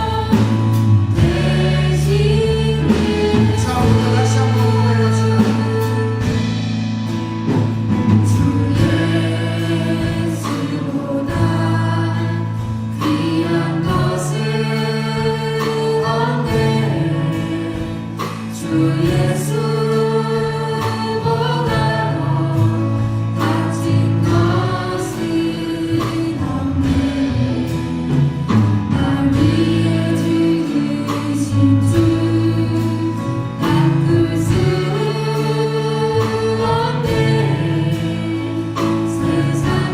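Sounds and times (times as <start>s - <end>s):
band playing bass and drums: 0.0s - 39.9s
group singing worship song: 0.0s - 39.9s.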